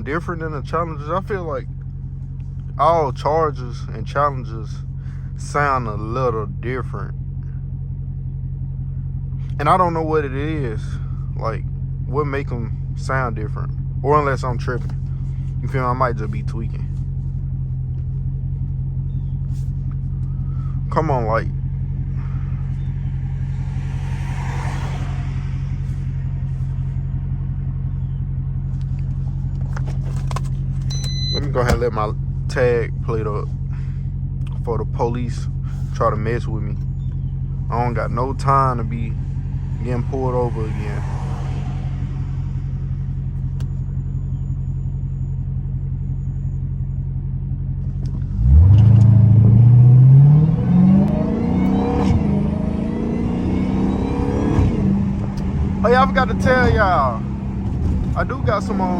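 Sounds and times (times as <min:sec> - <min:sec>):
car engine exhaust drone: 0:00.0 - 0:58.9.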